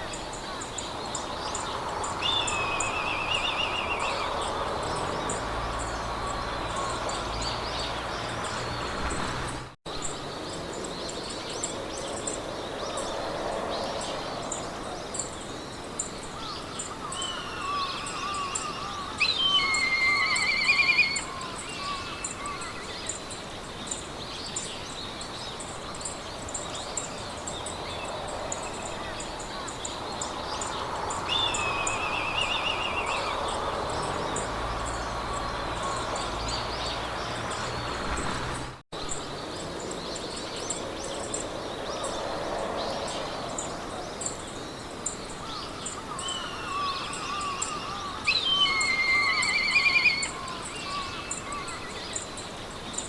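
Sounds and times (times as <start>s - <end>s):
birds singing: 0.0s - 53.0s
soft wind hiss: 0.0s - 53.0s.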